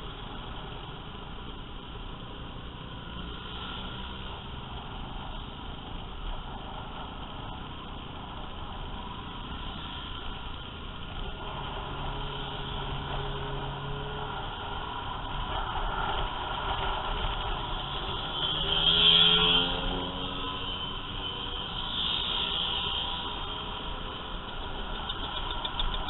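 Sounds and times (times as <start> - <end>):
scooter and motorcycle engines: 0.0 - 26.0
steady engine hum: 0.0 - 26.0.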